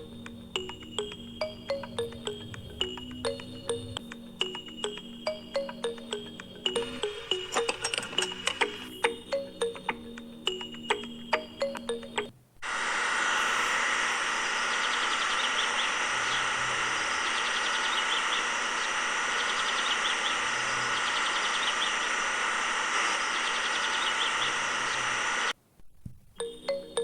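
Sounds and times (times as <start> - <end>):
mechanical whirring: 0.0 - 9.9, 12.6 - 25.6
small chirps: 0.0 - 25.5.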